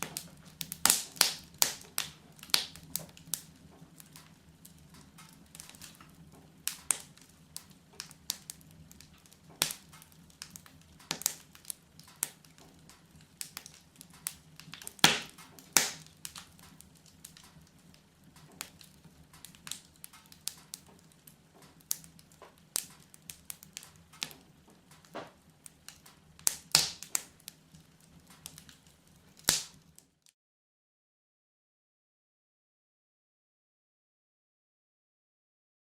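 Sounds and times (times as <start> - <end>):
wood fire crackling and popping: 0.0 - 30.4.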